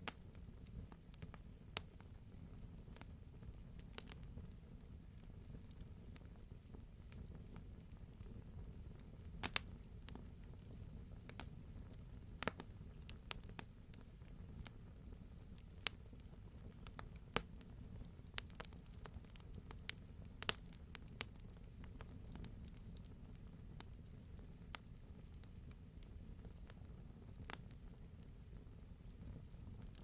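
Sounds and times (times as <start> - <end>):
burning logs popping: 0.0 - 30.0
fire rumbling: 0.0 - 30.0.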